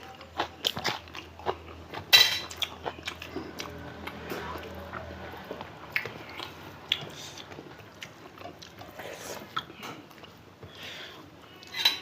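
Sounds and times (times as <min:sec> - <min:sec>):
chewing and biting: 0:00.1 - 0:10.4.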